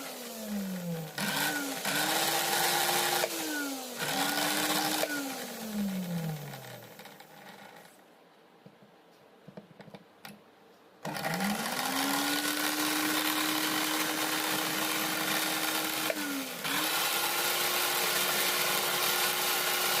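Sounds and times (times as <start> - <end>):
blender motor running: 0.0 - 7.8, 11.0 - 20.0.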